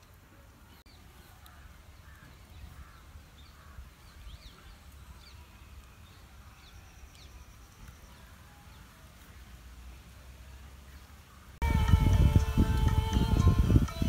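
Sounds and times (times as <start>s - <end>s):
birds calling: 0.0s - 11.6s.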